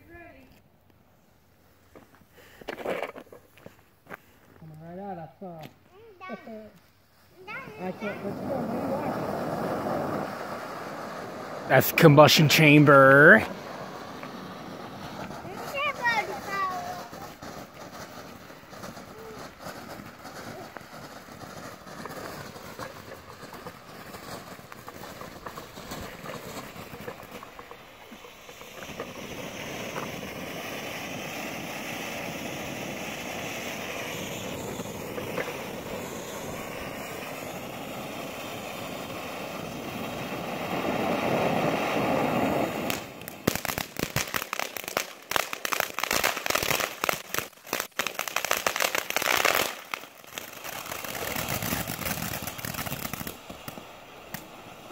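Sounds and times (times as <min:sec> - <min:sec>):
fireworks crackling: 0:00.0 - 0:54.9
fireworks hissing: 0:01.2 - 0:54.9.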